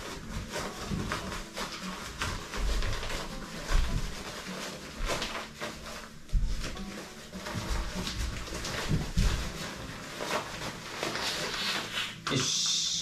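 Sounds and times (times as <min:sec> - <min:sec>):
soft handling thumps: 0:00.0 - 0:12.2
fabric rustling and crinkling: 0:00.0 - 0:12.5.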